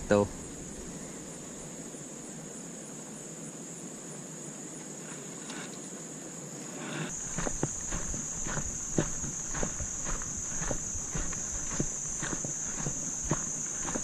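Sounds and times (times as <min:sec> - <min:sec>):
faint outdoor background hiss: 0:00.0 - 0:14.0
insect chorus trilling: 0:00.0 - 0:14.0.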